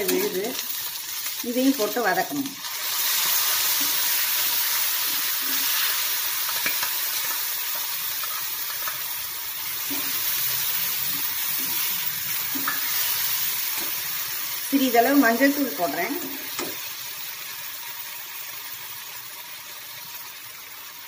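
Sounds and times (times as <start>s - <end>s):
paste sizzling in hot oil: 0.0s - 21.0s.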